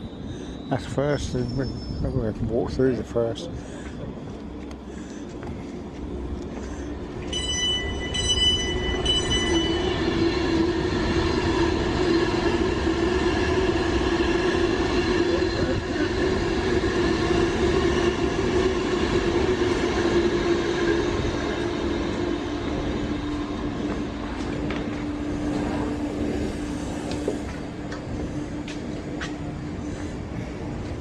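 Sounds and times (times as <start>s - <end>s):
passenger train humming: 0.0s - 31.0s.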